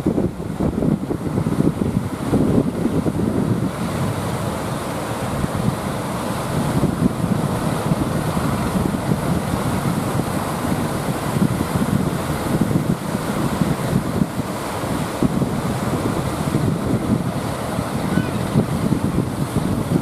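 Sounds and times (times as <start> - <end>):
sea waves: 0.0 - 20.0
wind buffeting microphone: 0.0 - 20.0.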